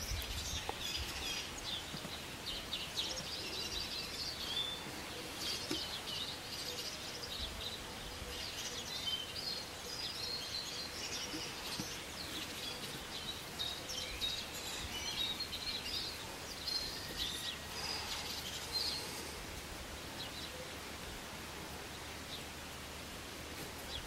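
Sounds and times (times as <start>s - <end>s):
songbirds chirping and singing: 0.0s - 21.1s
steady background hiss: 0.0s - 24.0s.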